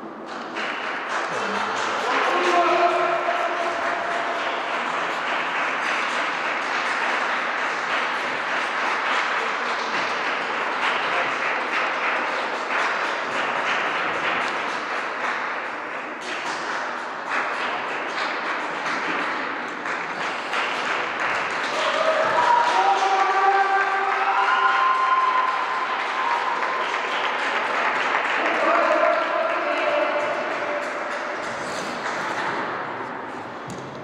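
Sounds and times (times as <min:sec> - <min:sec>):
audience clapping: 0:00.0 - 0:34.0.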